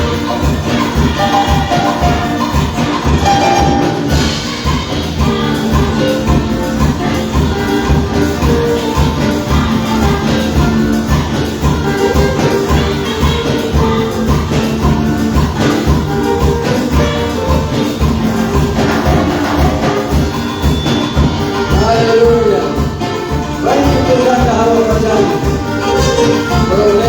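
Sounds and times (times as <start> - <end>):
tambourine: 0.0 - 27.0
worship band playing: 0.0 - 27.0.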